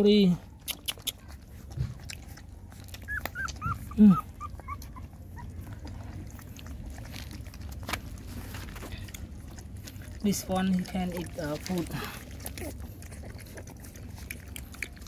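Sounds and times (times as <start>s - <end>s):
puppies whimpering: 0.7s - 15.0s.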